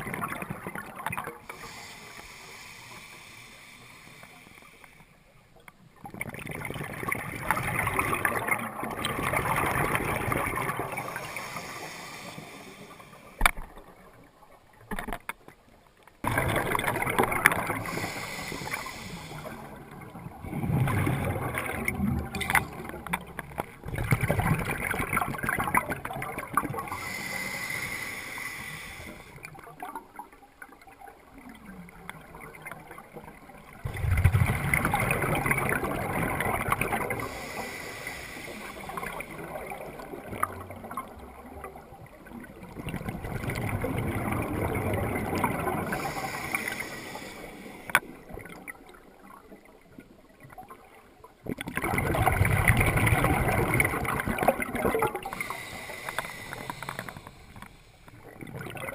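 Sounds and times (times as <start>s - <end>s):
water sloshing and gurgling: 0.0s - 58.9s.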